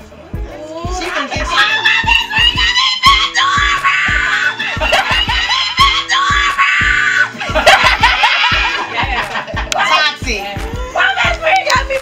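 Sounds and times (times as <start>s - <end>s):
music with heavy bass beat: 0.0s - 12.0s
vocals: 0.0s - 12.0s.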